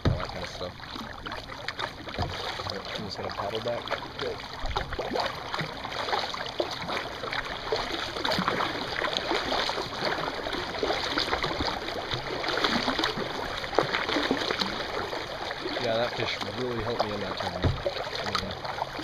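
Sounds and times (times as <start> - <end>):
paddle strokes in water: 0.0 - 19.0
water splashing and dripping: 0.0 - 19.0.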